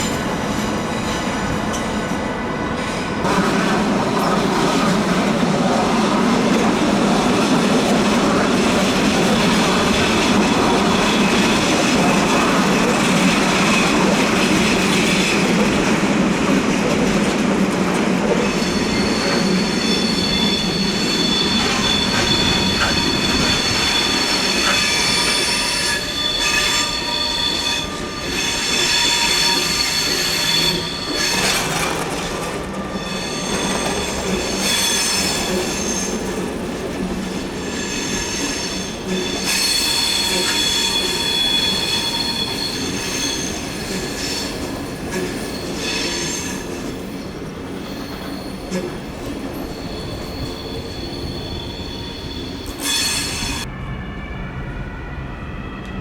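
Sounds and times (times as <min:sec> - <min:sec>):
wheel flanges squealing on rails: 0:00.0 - 0:16.2, 0:16.9 - 0:53.7
train wheels rumbling on track: 0:00.0 - 0:56.0.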